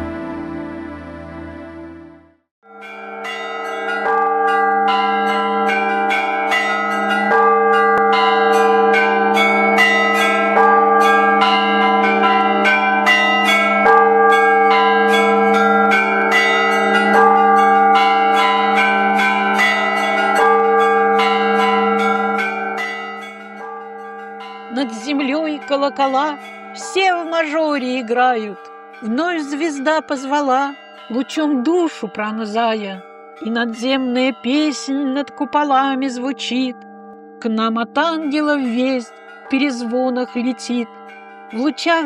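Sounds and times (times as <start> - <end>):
church bells ringing: 2.6 - 42.0.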